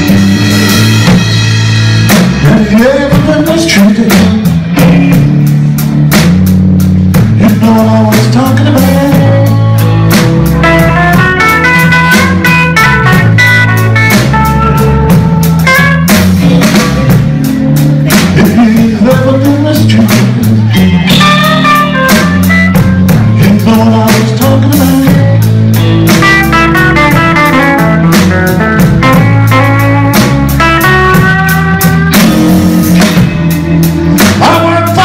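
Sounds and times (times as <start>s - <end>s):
blues band playing: 0.0s - 35.0s
drums: 0.0s - 35.0s
electric guitar lead lines: 0.0s - 35.0s.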